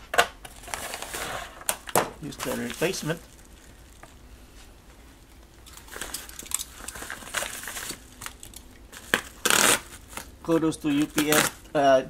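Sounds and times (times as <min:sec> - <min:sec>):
paper envelope crinkling: 0:00.5 - 0:04.2, 0:05.6 - 0:11.6.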